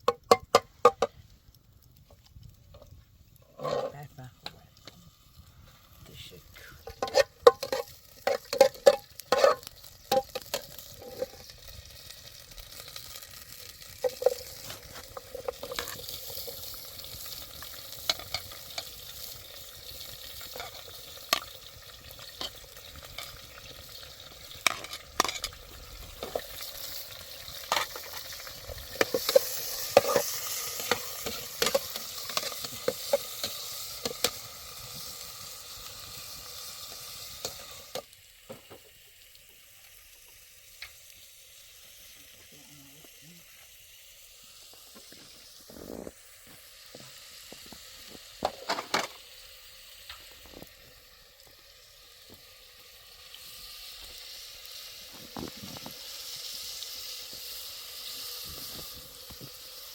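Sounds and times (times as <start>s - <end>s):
food sizzling in a pan: 1.9s - 59.9s.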